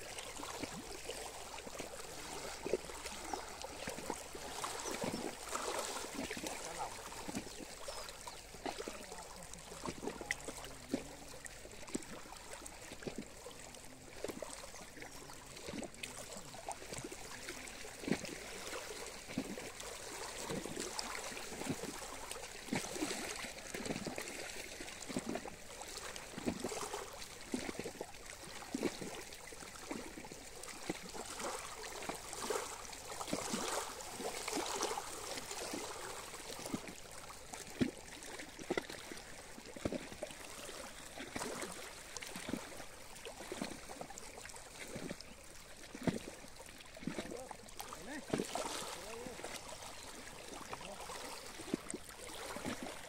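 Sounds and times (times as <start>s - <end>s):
small waves lapping on stony shore: 0.0s - 53.0s.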